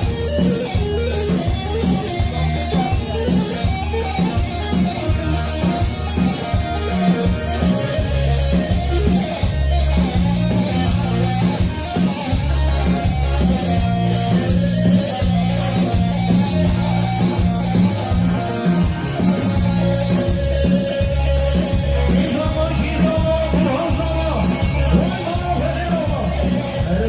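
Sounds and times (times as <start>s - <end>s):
bass line: 0.0s - 27.0s
electric saz melody: 0.0s - 27.0s
steady drum beat: 0.0s - 27.0s.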